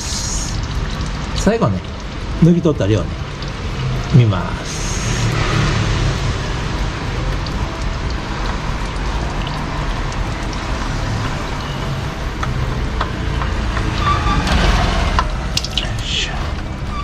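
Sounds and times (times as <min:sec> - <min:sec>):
oil trickling into drain pan: 0:00.0 - 0:16.2.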